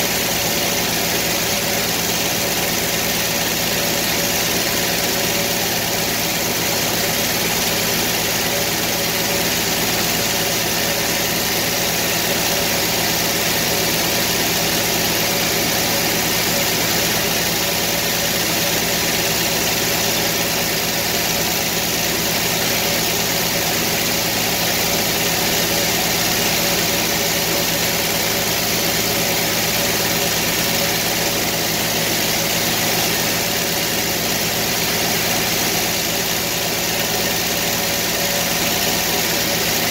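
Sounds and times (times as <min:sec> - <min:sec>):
sawmill engine idling: 0:00.0 - 0:39.9.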